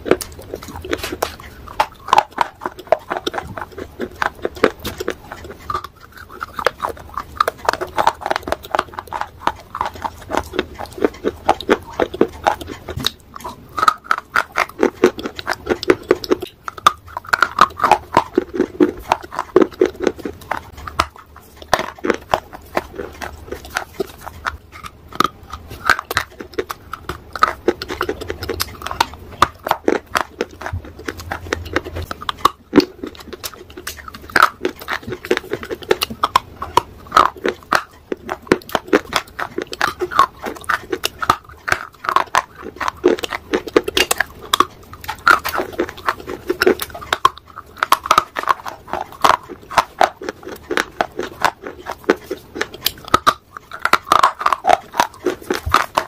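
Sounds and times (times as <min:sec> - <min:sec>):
crunching and chewing shale: 0:00.0 - 0:56.0.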